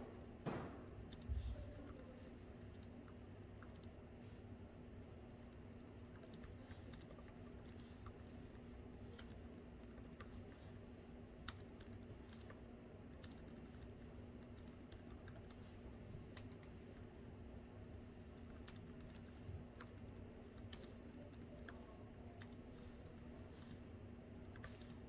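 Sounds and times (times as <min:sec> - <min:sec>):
faint steady hum: 0:00.0 - 0:25.0
laptop keyboard typing: 0:01.0 - 0:04.1, 0:05.2 - 0:17.1, 0:18.1 - 0:25.0.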